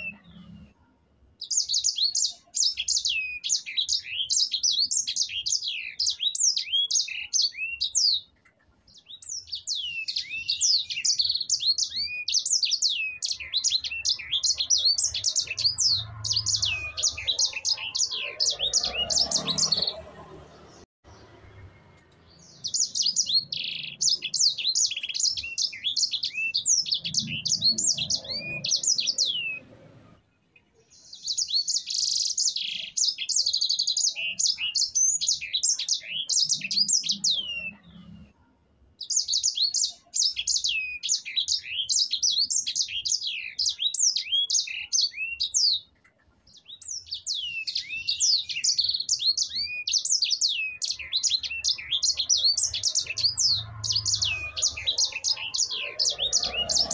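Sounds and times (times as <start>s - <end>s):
finch singing chirps and trills: 0.0s - 0.7s, 1.4s - 21.7s, 22.3s - 29.8s, 30.8s - 38.2s, 39.0s - 56.9s.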